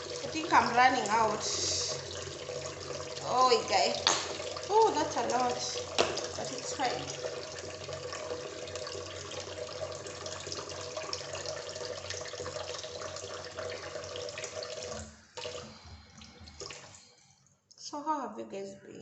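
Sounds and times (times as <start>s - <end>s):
tap water running into sink: 0.0s - 17.1s.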